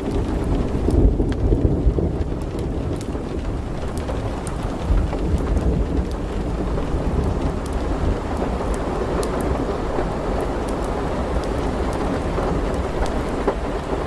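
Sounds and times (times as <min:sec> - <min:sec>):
heavy rain pouring: 0:00.0 - 0:14.0
raindrops ticking on hard surfaces: 0:00.0 - 0:14.0.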